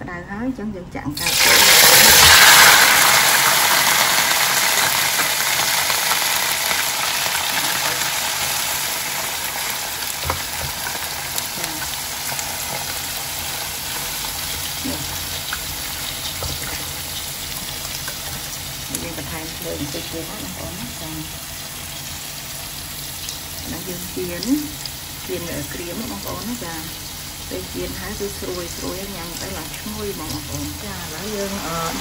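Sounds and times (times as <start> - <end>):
frog legs sizzling in oil: 1.2 - 32.0.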